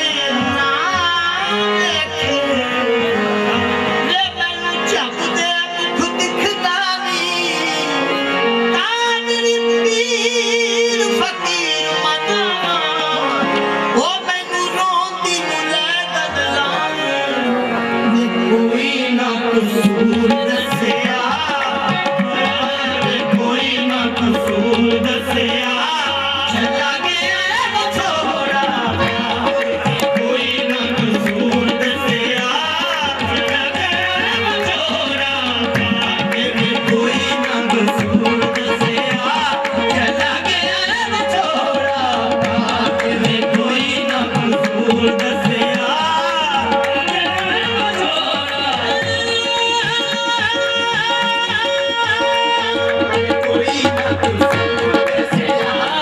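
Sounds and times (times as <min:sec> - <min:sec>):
harmonium drone: 0:00.0 - 0:56.0
tabla rhythm: 0:00.0 - 0:56.0.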